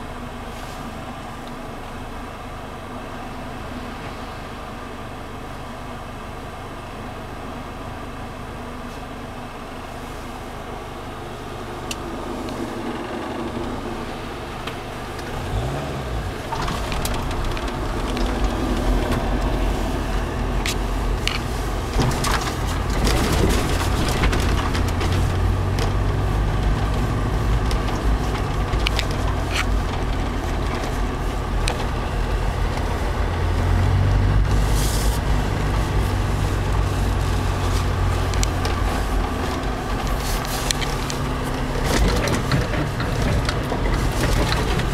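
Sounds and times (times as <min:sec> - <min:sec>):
off-road vehicle engine rumble: 0:00.0 - 0:44.9.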